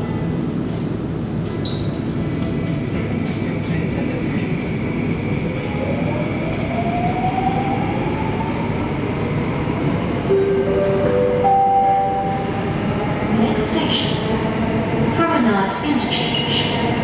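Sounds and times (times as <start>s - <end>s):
metro train rumble and whine: 0.0s - 17.0s.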